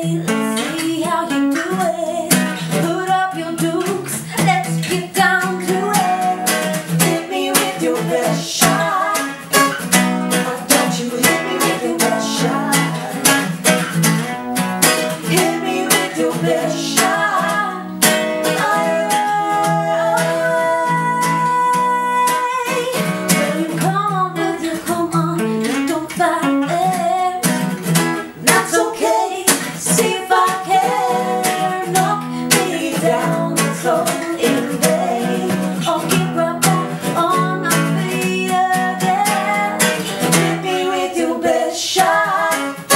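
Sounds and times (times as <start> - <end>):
acoustic guitar strumming: 0.0 - 42.9
sliding guitar melody: 0.0 - 42.9.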